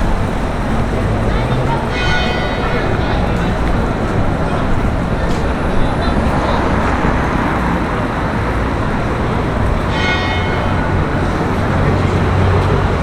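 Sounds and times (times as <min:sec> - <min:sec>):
street traffic road noise: 0:00.0 - 0:13.0.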